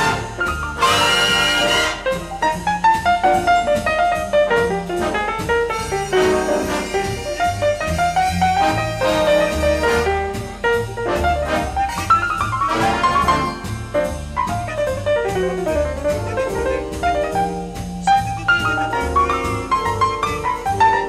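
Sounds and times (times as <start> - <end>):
jazz instrumental: 0.0 - 21.0.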